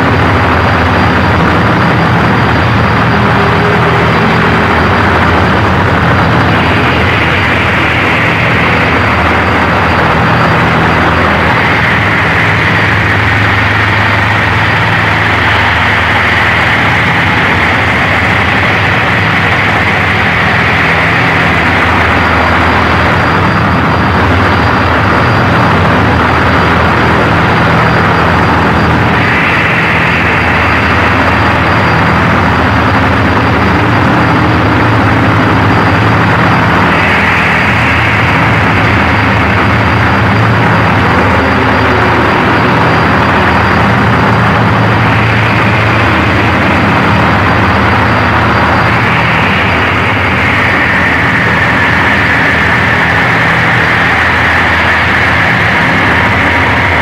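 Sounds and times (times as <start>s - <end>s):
dense wall of noise: 0.0s - 57.0s
harsh hissing noise: 0.0s - 57.0s
low droning hum: 0.0s - 57.0s
thin high whine: 0.0s - 57.0s.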